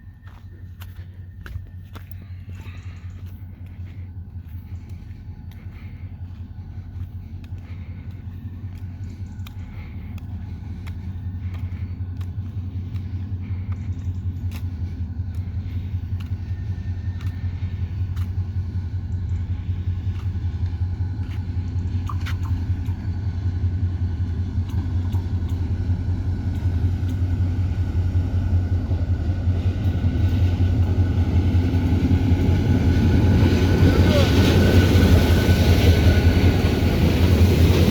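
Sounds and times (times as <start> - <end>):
locomotive engine rumbling: 0.0 - 37.9.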